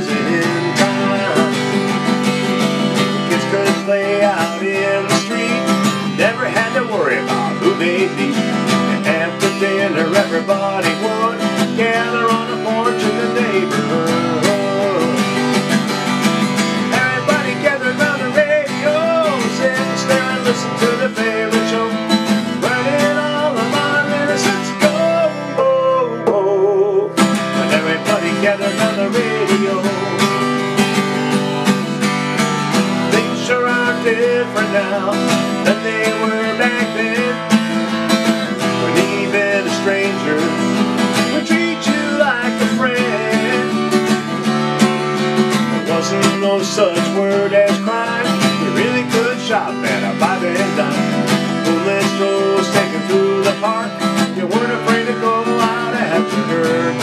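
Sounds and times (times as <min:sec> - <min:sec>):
man singing: 0:00.0 - 0:57.0
strummed acoustic guitar: 0:00.0 - 0:57.0.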